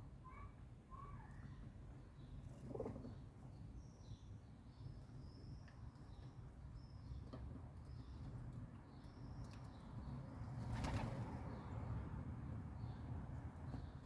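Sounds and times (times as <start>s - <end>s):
low city rumble: 0.0s - 14.0s
sparrows chirping: 0.3s - 12.1s, 12.7s - 14.0s.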